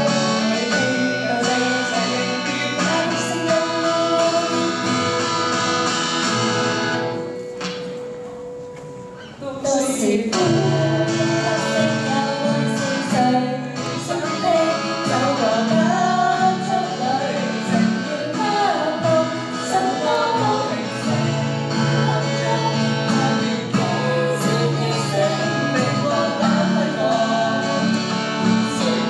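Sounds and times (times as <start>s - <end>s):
woman and man singing: 0.0s - 5.6s, 9.4s - 29.0s
acoustic guitars strummed: 0.0s - 29.0s.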